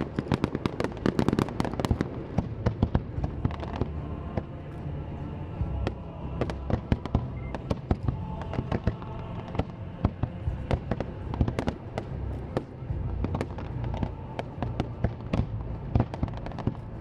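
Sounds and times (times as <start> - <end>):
fireworks bangs and cracks: 0.0 - 4.9, 5.5 - 17.0
music: 0.0 - 17.0.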